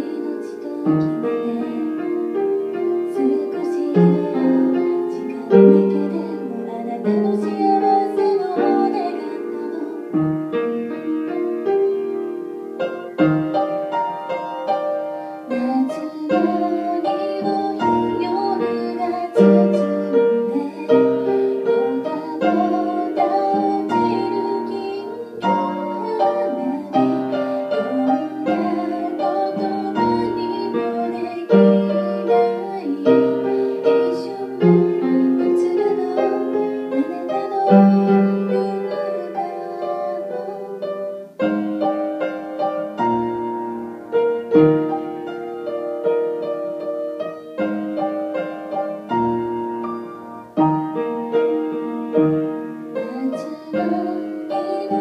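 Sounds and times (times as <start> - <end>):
woman singing: 0.0 - 12.4, 13.0 - 55.0
grand piano: 0.0 - 55.0.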